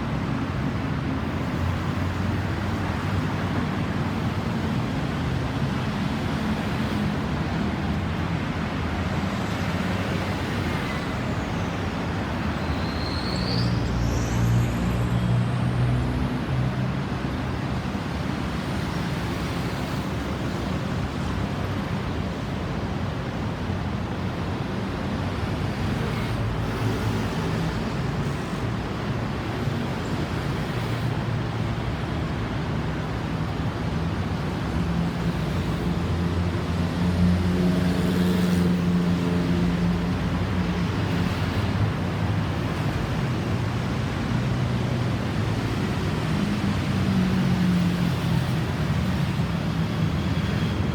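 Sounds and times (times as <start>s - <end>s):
road noise: 0.0s - 50.9s.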